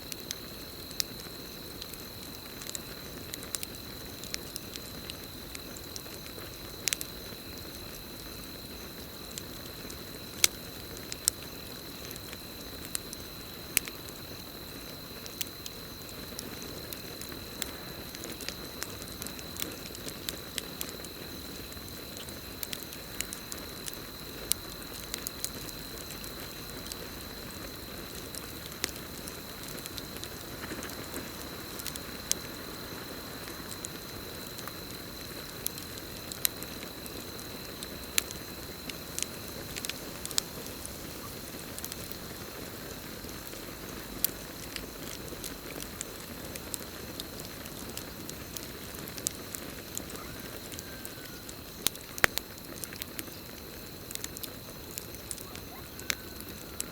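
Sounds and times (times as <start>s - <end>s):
campfire crackling: 0.0s - 56.9s
crickets trilling: 0.0s - 56.9s.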